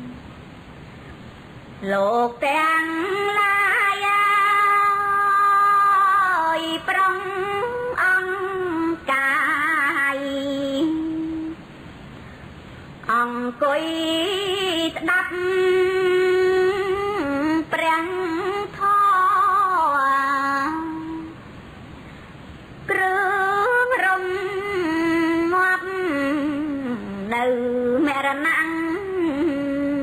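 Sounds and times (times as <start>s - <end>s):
woman chanting: 1.8s - 11.6s, 13.0s - 21.4s, 22.8s - 30.0s.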